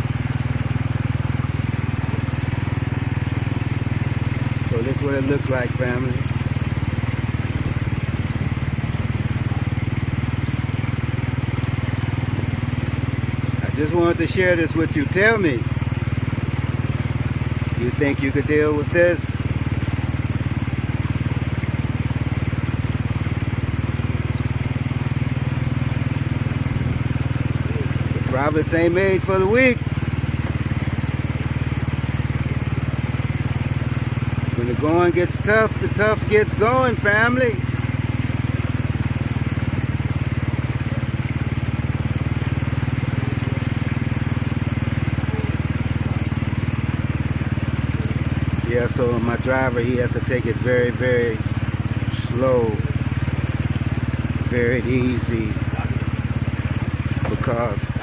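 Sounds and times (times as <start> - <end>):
small motorcycle engine running: 0.0 - 58.0.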